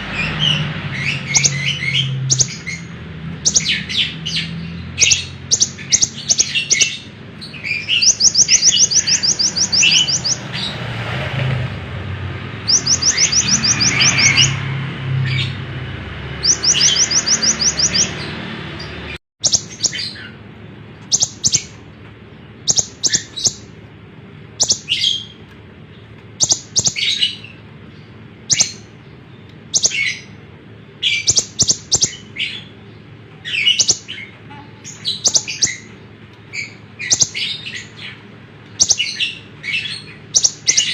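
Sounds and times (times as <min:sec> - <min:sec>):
bird sharp chirps: 0:00.0 - 0:10.8, 0:12.6 - 0:14.6, 0:16.3 - 0:20.4, 0:21.0 - 0:21.8, 0:22.6 - 0:23.8, 0:24.6 - 0:25.4, 0:26.0 - 0:40.9
bird buzzy trills: 0:00.0 - 0:11.0, 0:11.6 - 0:40.9.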